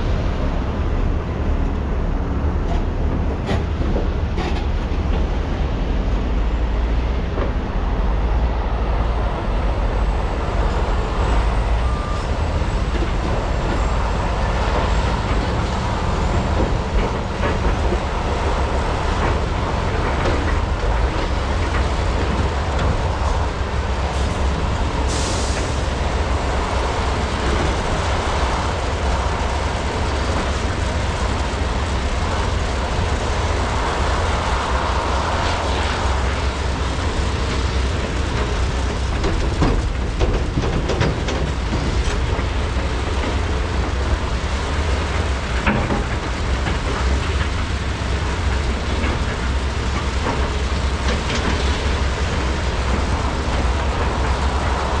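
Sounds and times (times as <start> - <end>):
excavator diesel engines under load: 0.0 - 55.0.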